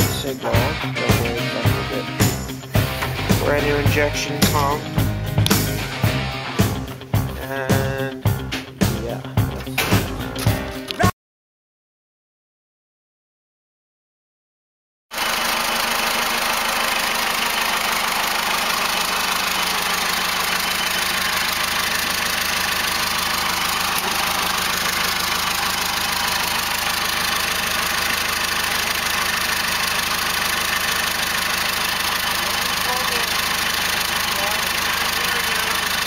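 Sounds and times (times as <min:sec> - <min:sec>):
unmuffled diesel engine idling: 0:00.0 - 0:08.5, 0:15.2 - 0:36.0.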